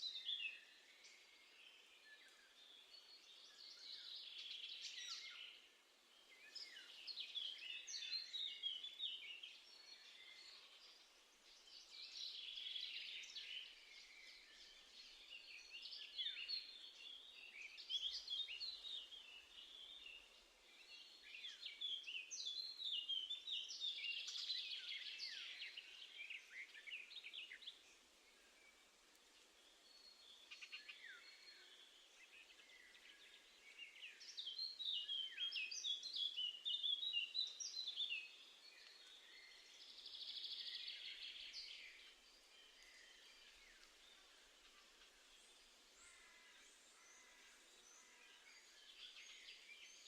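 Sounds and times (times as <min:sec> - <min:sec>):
songbirds singing: 0:00.0 - 0:50.0.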